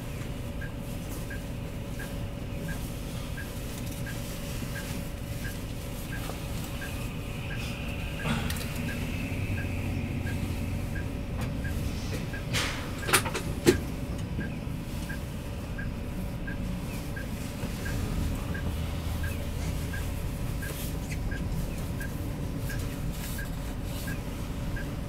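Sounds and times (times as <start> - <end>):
bus engine and road hum: 0.0 - 25.0.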